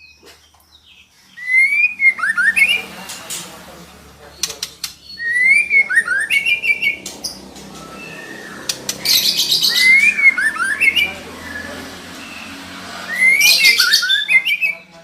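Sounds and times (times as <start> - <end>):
bird whistled notes and buzzy chatter: 0.0 - 15.0.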